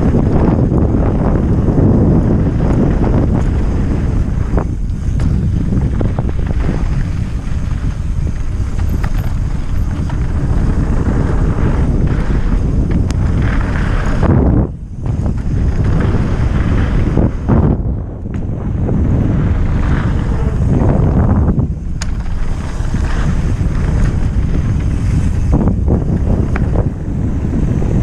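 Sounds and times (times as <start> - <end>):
bike clicks and rattles: 0.0 - 28.0
low rumble: 0.0 - 28.0
wind buffeting microphone: 0.0 - 28.0.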